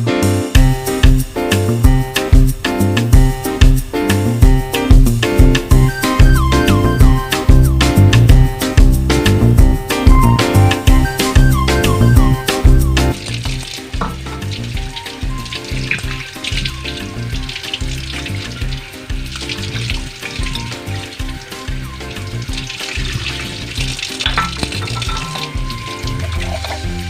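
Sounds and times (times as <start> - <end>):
background music: 0.0 - 27.0.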